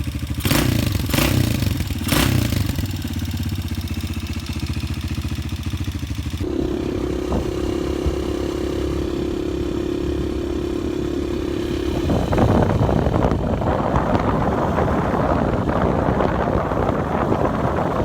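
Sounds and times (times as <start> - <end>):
motorbike engine running: 0.0 - 18.0
rough rushing noise: 0.2 - 9.7, 10.5 - 18.0.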